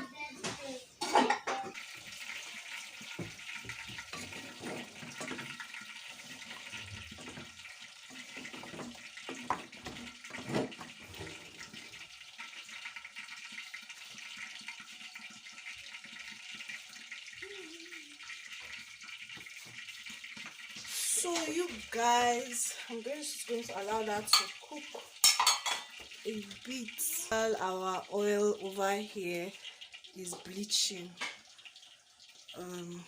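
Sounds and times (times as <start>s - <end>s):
pots sizzling on stove: 0.0s - 33.0s.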